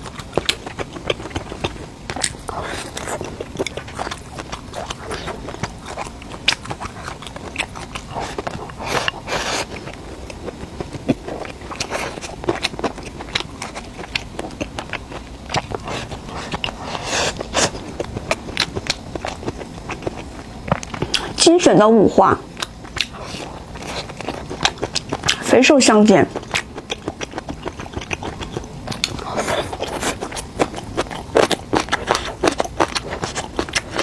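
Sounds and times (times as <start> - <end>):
person biting and chewing food: 0.0 - 21.4, 22.5 - 25.5, 26.3 - 34.0.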